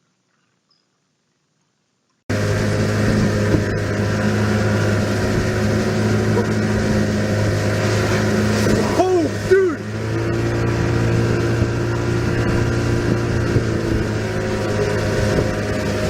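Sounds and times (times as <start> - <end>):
steady engine hum: 2.3 - 16.0.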